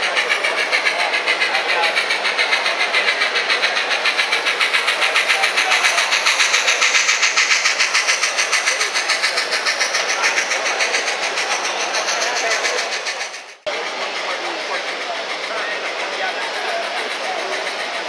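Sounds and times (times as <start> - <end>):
model train steam chuffing: 0.0 - 18.0.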